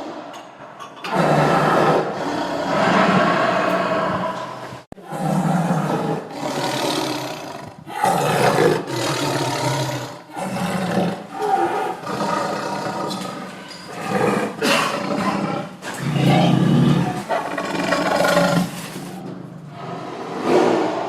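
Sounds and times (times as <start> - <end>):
tiger roaring: 1.0 - 21.0.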